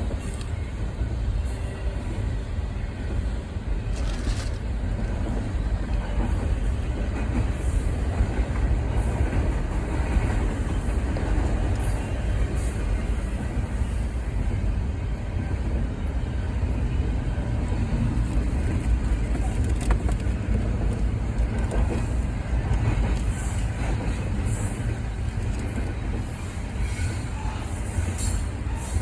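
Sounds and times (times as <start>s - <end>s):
train rolling past: 0.0s - 29.0s.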